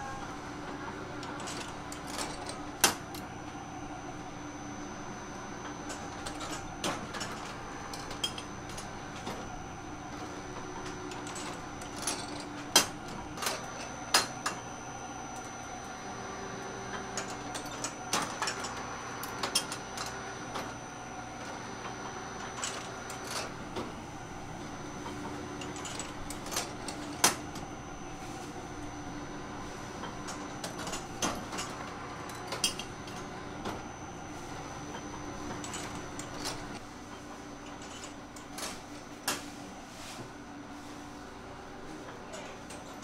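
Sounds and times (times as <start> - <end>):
machine hum with high whine: 0.0 - 43.0.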